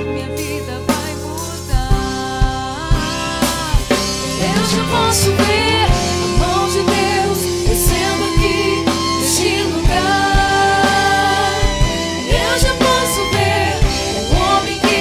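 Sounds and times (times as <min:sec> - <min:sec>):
gospel band playing: 0:00.0 - 0:15.0
drum and cymbal hits: 0:01.6 - 0:15.0
voices singing long notes: 0:03.0 - 0:15.0.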